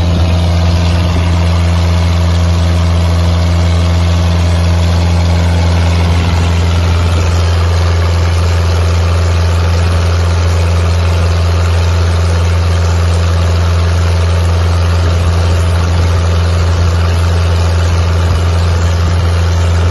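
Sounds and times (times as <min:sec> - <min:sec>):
boat engine drone: 0:00.0 - 0:19.9
water rushing: 0:00.0 - 0:19.9
wind: 0:00.0 - 0:19.9.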